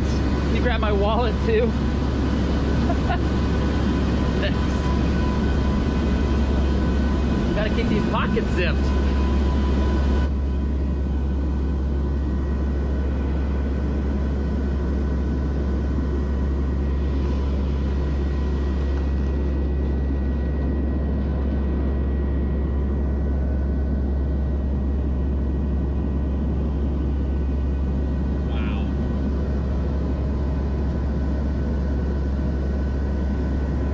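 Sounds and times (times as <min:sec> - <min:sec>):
turboprop engine and propeller hum: 0:00.0 - 0:33.9.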